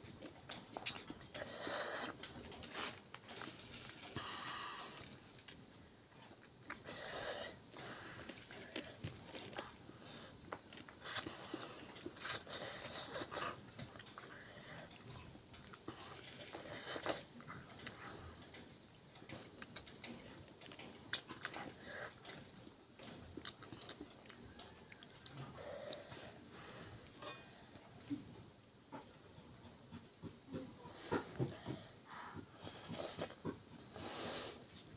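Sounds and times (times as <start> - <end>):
child chewing and slurping noodles: 0.0 - 34.9.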